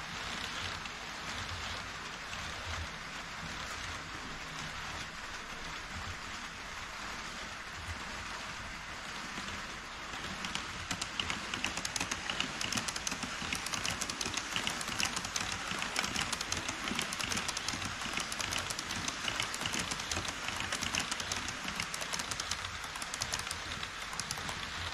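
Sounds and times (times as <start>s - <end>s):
model train wheels clicking: 0.0s - 24.9s.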